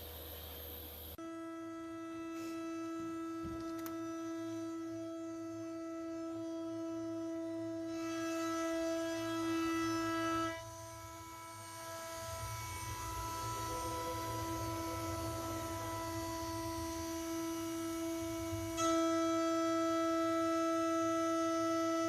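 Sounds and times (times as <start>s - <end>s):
low hum: 0.0s - 22.0s
router spindle whine: 0.0s - 22.0s.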